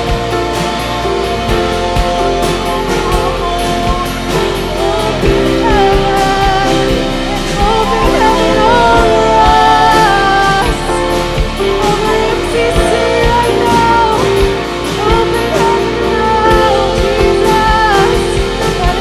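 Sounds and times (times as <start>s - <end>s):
live band playing: 0.0s - 19.0s
person singing long held notes: 0.0s - 19.0s.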